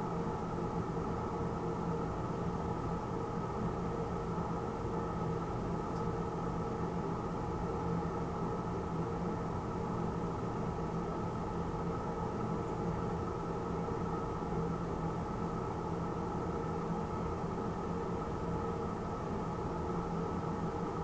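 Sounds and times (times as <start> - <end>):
film projector humming: 0.0 - 21.0.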